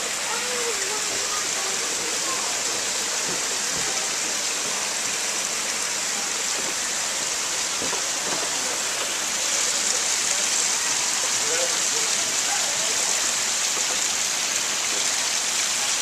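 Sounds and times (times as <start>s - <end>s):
falling and running water: 0.0s - 16.0s.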